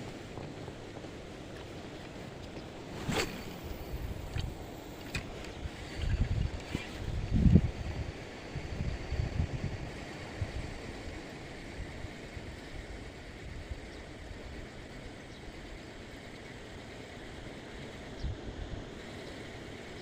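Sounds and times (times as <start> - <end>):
wind rumble on microphone: 0.0 - 16.0, 17.5 - 20.0
steady rush of wind: 0.0 - 20.0.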